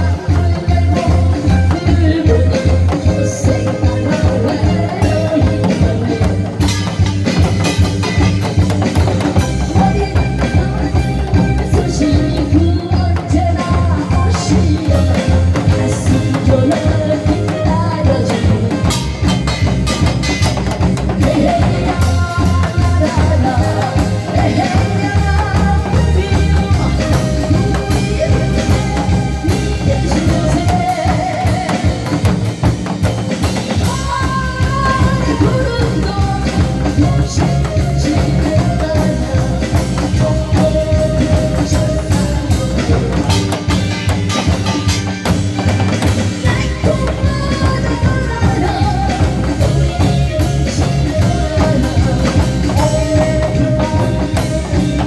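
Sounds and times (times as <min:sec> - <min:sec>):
amplified backing music: 0:00.0 - 0:55.0
person singing live: 0:00.0 - 0:55.0
steady drum beat: 0:00.0 - 0:55.0.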